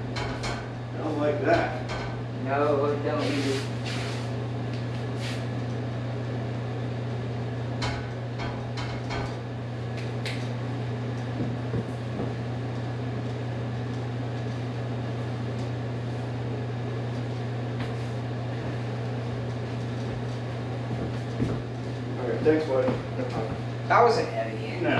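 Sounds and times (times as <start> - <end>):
window air conditioner humming: 0.0 - 24.9.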